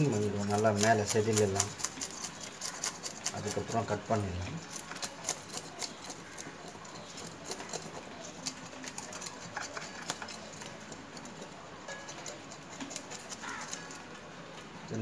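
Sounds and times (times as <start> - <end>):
blade scraping fish scales: 0.0 - 14.5.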